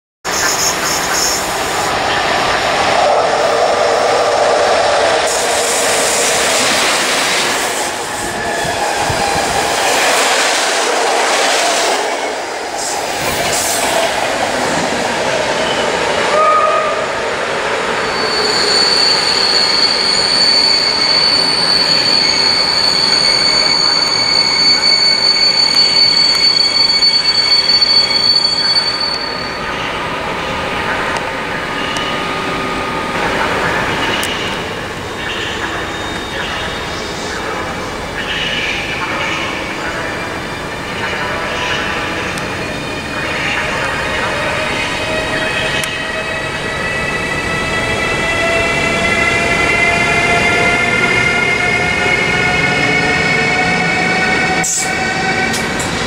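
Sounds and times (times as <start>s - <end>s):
train wheels rushing on rails: 0.2s - 56.0s
electric locomotive whine: 0.3s - 56.0s.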